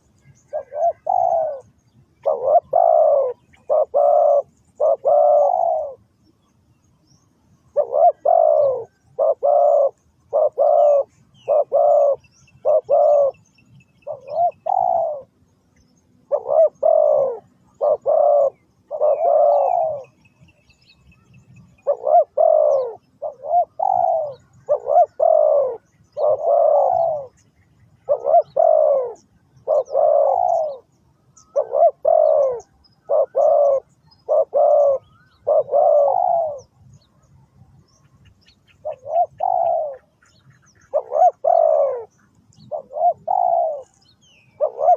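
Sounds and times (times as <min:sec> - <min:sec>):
dove cooing: 0:00.0 - 0:06.1, 0:07.7 - 0:15.4, 0:16.2 - 0:20.4, 0:21.6 - 0:37.1, 0:38.0 - 0:44.9.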